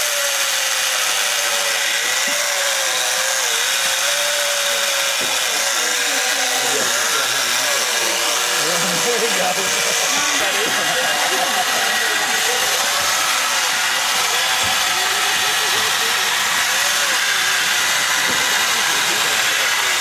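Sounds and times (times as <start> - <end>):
chainsaw cutting ice: 0.0 - 20.0.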